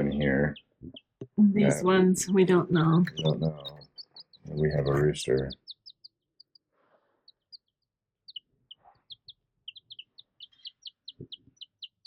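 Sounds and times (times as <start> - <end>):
chicks peeping: 0.0 - 6.5, 7.3 - 12.0.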